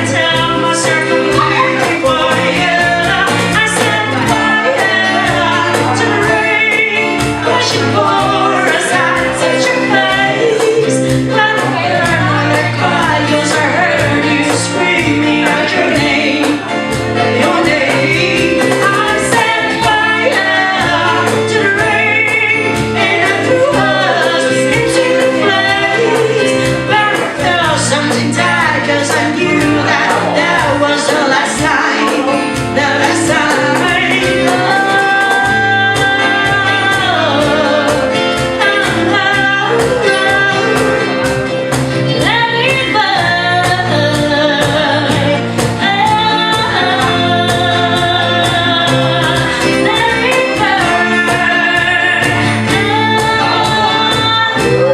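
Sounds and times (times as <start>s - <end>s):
backing track with steady beat: 0.0s - 54.9s
woman singing: 0.0s - 54.9s.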